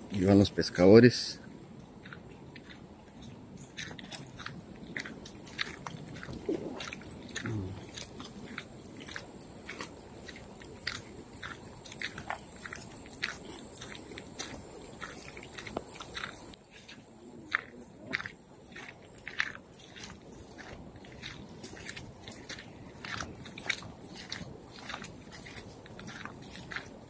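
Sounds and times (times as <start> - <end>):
footsteps crunching on gravel: 0.0 - 27.0.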